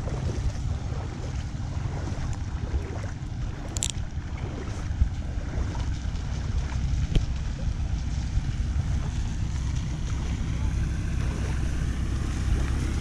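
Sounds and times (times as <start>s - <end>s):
flood water rushing: 0.0s - 13.0s
wind buffeting microphone: 0.0s - 13.0s.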